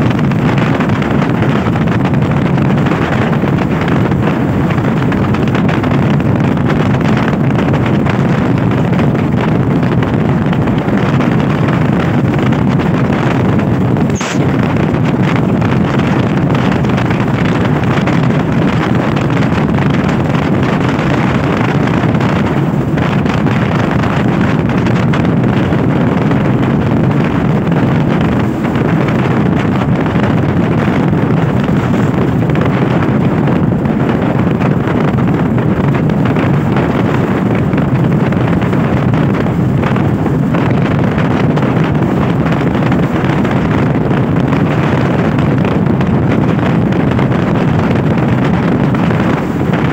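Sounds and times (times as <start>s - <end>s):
motorcycle running noise: 0.0s - 49.9s
wind rush on microphone: 0.0s - 49.9s.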